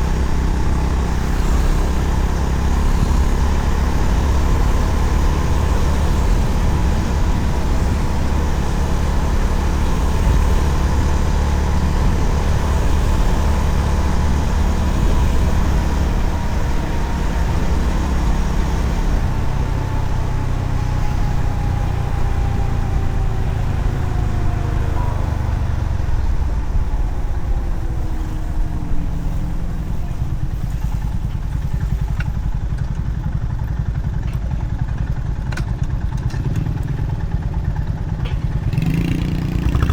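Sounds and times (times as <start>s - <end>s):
wind rumble on microphone: 0.0s - 32.8s
motorcycle engine running: 0.0s - 39.9s.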